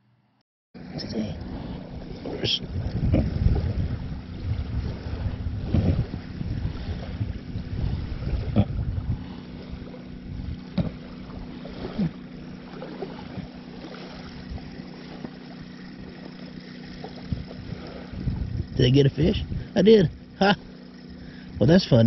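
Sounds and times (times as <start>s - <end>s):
small waves lapping on shore: 0.8s - 22.0s
wind buffeting microphone: 1.4s - 20.4s.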